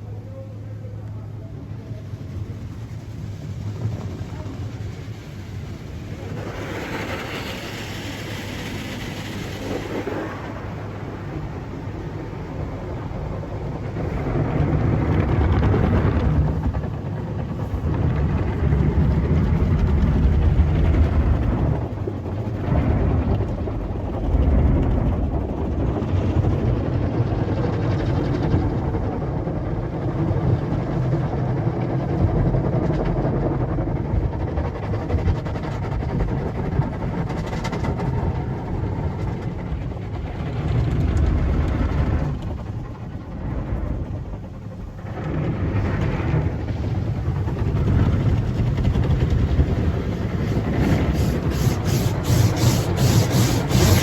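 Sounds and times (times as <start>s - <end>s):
car wash equipment rumbling: 0.0s - 54.0s.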